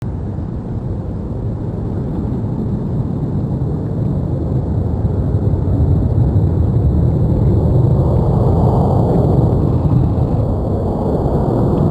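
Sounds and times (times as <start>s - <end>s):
jet engines deep rumble: 0.0s - 11.9s.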